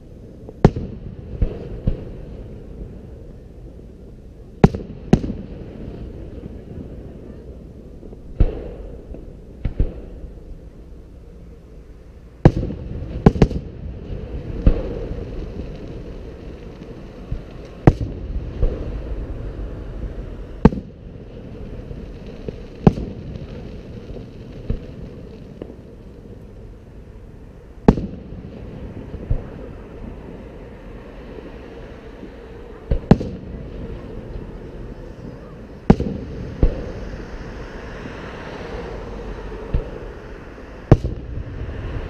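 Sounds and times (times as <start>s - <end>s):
fireworks bursting with bangs: 0.0s - 3.6s, 4.5s - 42.0s
low rumbling echo: 0.0s - 42.0s.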